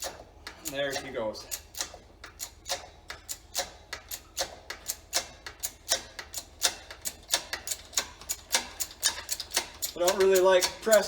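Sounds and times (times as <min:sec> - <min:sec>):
sharp metallic clicking: 0:00.0 - 0:11.0.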